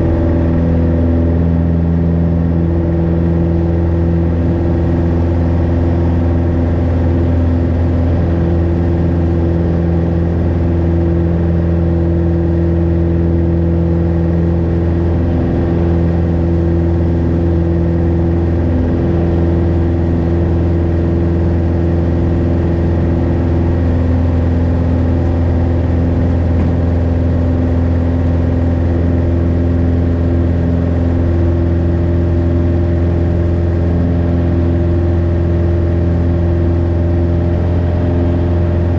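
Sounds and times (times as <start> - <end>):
aircraft piston engine drone: 0.0 - 38.9.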